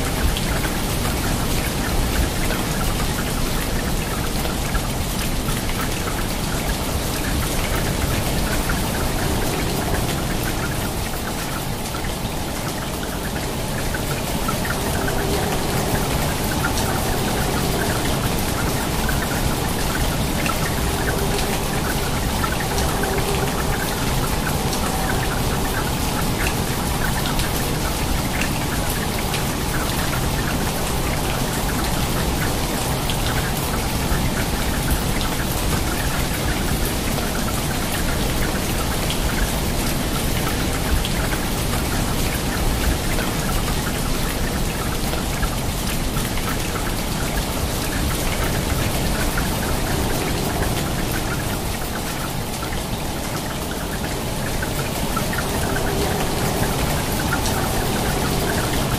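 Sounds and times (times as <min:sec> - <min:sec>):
rain falling on water: 0:00.0 - 0:58.9.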